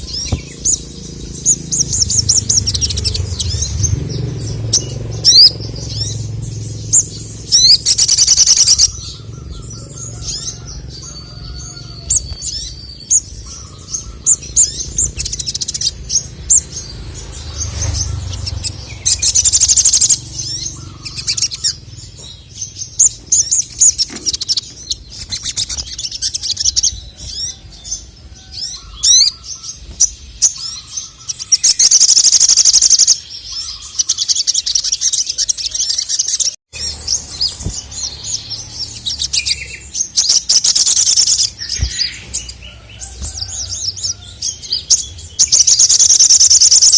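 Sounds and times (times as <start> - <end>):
bird singing high chirps: 0.0 - 46.9
buzzy bird trills: 0.0 - 46.9.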